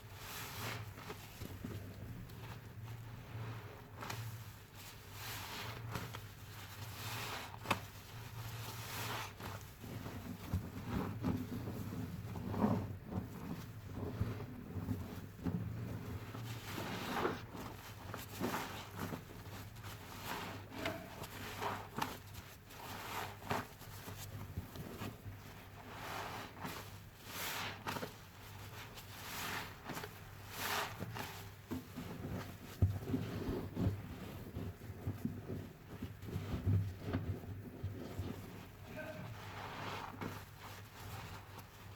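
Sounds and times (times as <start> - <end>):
sponge squelching: 0.0 - 41.9.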